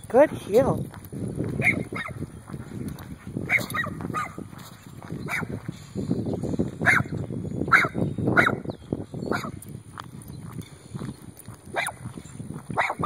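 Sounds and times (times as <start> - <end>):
footsteps on asphalt: 0.0 - 13.0.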